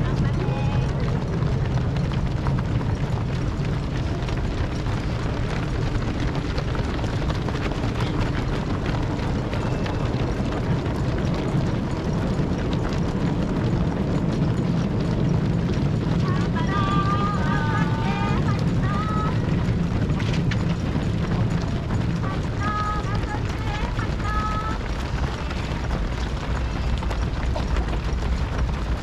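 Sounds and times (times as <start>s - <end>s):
runners' shoes on road: 0.0s - 29.0s
wind buffeting microphone: 0.0s - 29.0s.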